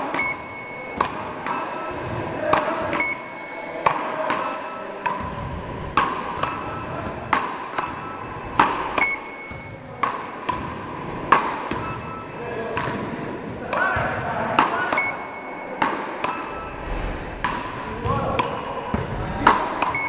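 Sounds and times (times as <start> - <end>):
paddles hitting rubber ball: 0.0 - 3.2, 3.8 - 16.5, 17.4 - 20.0.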